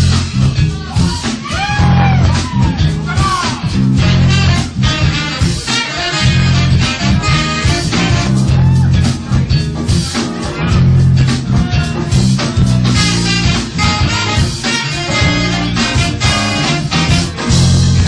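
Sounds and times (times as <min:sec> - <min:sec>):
band playing music: 0:00.0 - 0:18.0.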